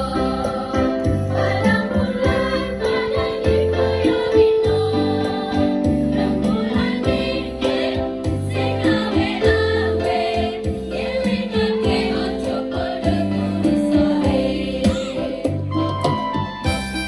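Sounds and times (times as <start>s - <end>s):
women's choir singing: 0.0s - 16.1s
electronic keyboard: 0.0s - 17.0s.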